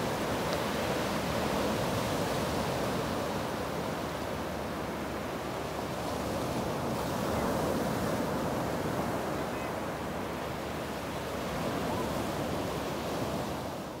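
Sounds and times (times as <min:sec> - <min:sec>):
waves breaking on a beach: 0:00.0 - 0:14.0.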